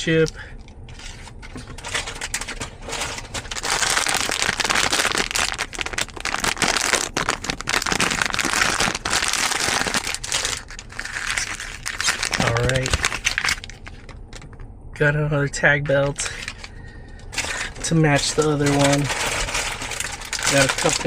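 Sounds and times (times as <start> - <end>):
wrapper crinkling and tearing: 0.9 - 14.4, 17.3 - 21.0.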